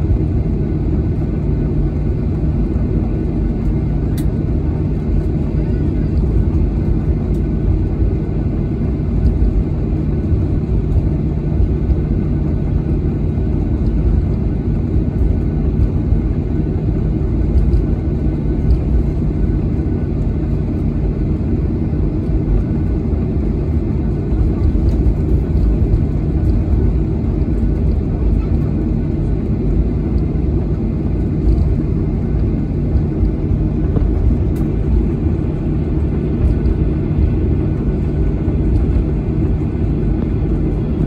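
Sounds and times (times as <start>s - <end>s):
jet engine cabin rumble: 0.0s - 41.0s.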